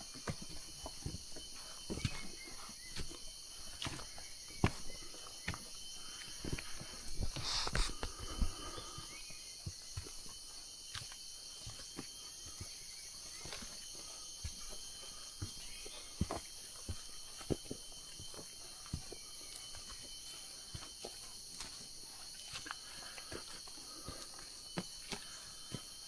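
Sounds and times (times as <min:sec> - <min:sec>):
footsteps on a trail: 0:00.0 - 0:26.0
insects droning: 0:00.0 - 0:26.0.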